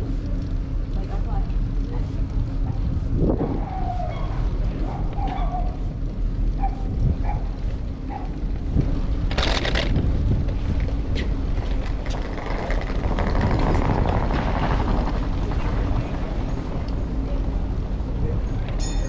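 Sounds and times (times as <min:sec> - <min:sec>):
traffic noise: 0:00.0 - 0:19.0
wind rumbling on microphone: 0:00.0 - 0:19.0.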